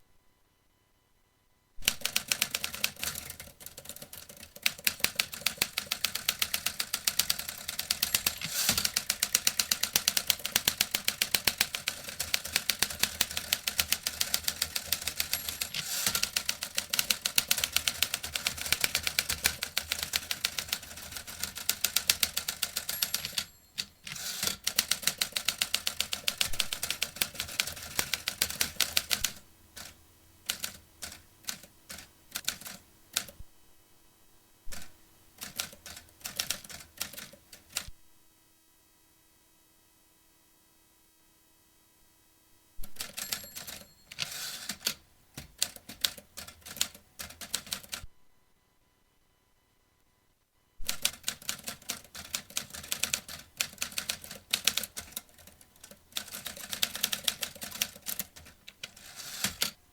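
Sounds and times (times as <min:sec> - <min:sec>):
typewriter typing: 0:01.8 - 0:33.4, 0:34.7 - 0:37.9, 0:42.9 - 0:48.0, 0:50.8 - 0:59.8.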